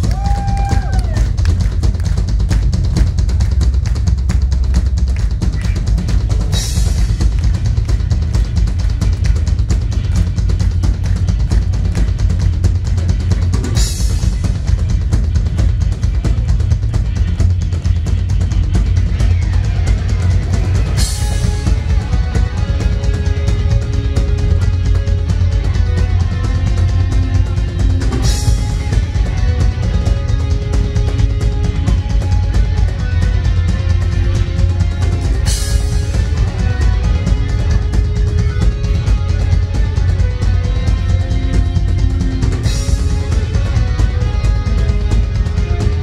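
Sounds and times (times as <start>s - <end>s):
drum kit playing fast: 0.0s - 46.0s
electric guitars and bass: 0.0s - 46.0s.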